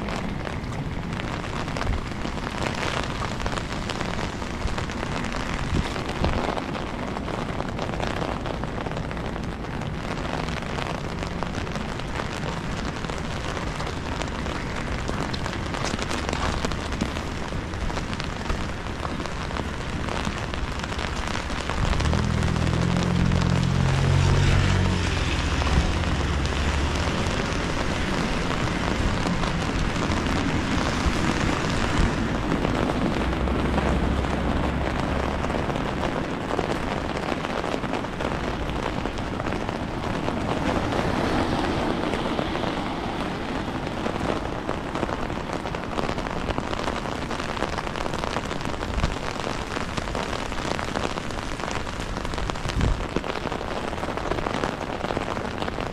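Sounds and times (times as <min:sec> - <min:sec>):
rain on a street: 0:00.0 - 0:55.9.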